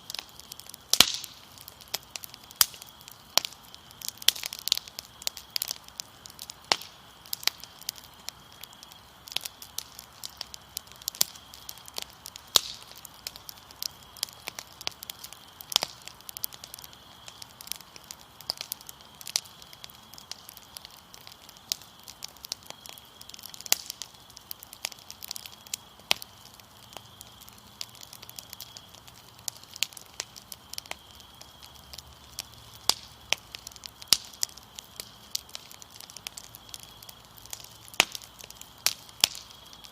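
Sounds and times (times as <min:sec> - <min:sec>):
crickets trilling: 0:00.0 - 0:39.9
wood fire crackling and popping: 0:00.0 - 0:39.9.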